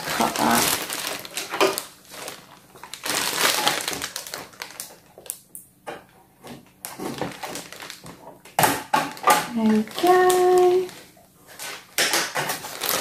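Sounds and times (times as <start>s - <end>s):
plastic packaging crinkling: 0.0s - 5.6s, 6.6s - 13.0s.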